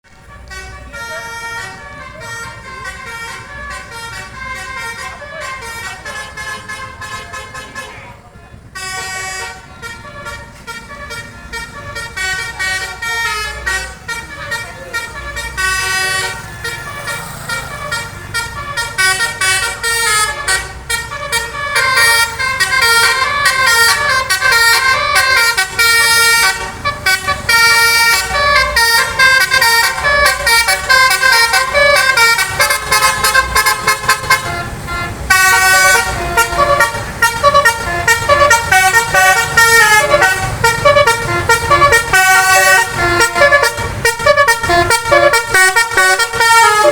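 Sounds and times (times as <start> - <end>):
multi-tone air horn melody: 0.1 - 46.9.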